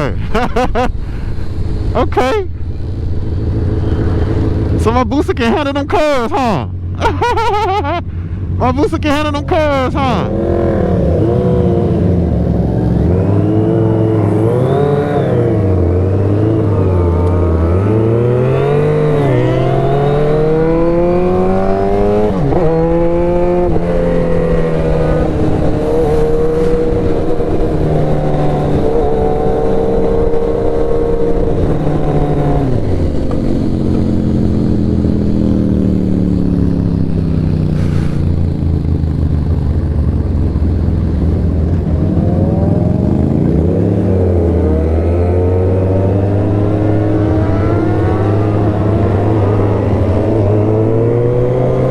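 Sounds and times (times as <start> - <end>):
motorcycle engine: 0.0 - 51.9.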